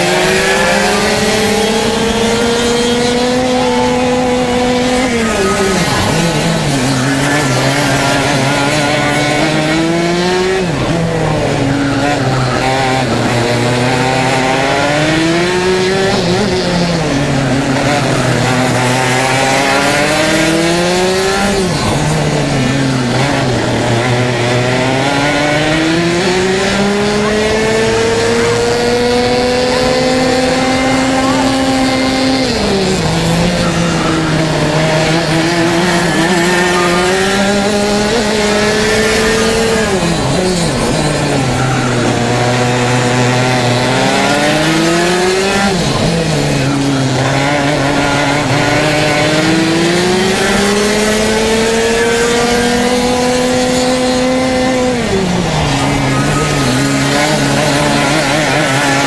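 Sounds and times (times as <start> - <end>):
kart engine revving: 0.0 - 59.0
other kart engines: 0.0 - 59.0.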